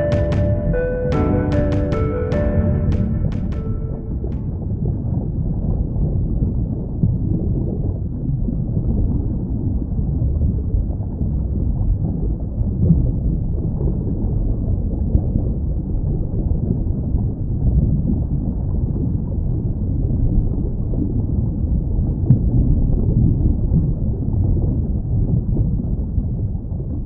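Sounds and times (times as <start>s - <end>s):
muffled low rumbling: 0.0s - 27.0s.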